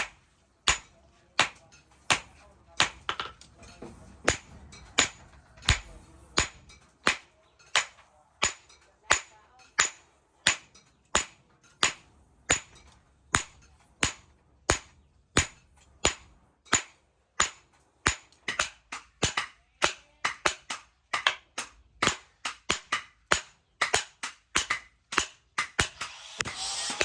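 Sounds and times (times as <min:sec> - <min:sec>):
hammer striking steel on anvil: 0:00.0 - 0:27.0.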